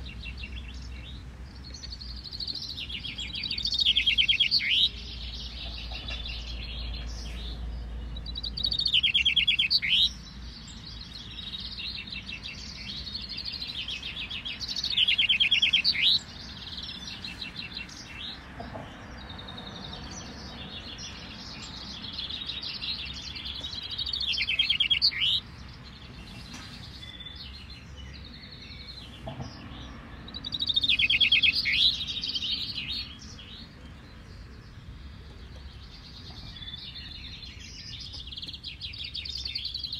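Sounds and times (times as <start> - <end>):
chaffinches singing: 0.0 - 39.9.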